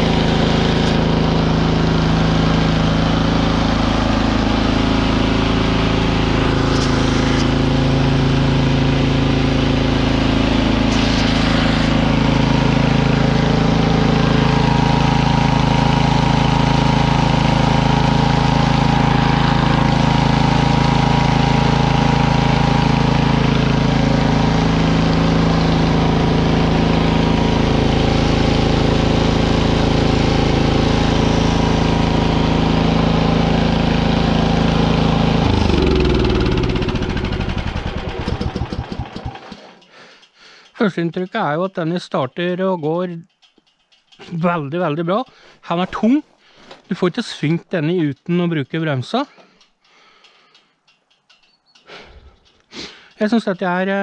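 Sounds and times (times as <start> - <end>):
snowblower engine running: 0.0 - 42.0, 51.9 - 54.0.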